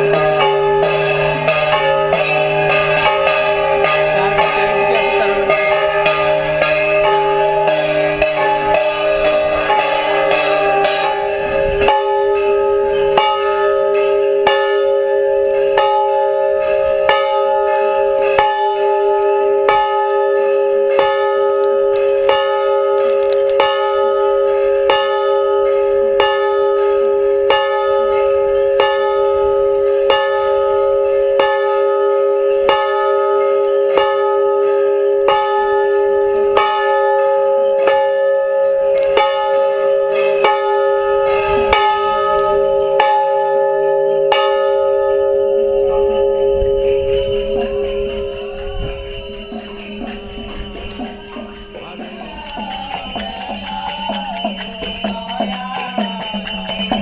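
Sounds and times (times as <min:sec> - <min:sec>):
large bell ringing: 0:00.0 - 0:57.0.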